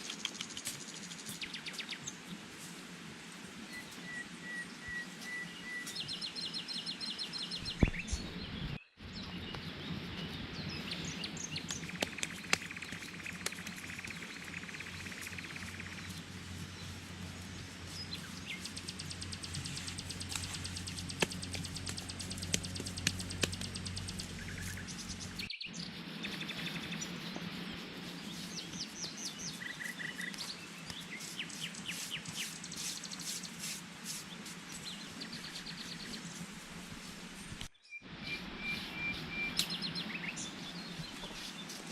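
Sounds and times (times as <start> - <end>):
small birds chirping: 0.0 - 2.7, 3.5 - 41.9.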